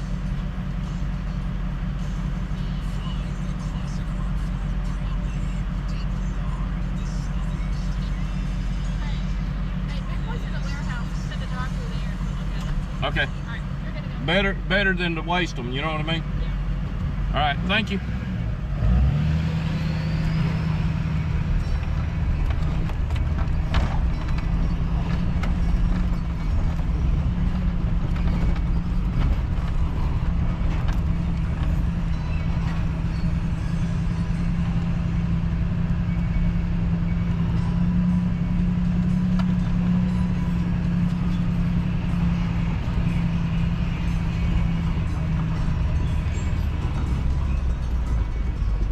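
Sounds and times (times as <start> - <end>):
vehicle engine humming: 0.0 - 48.9.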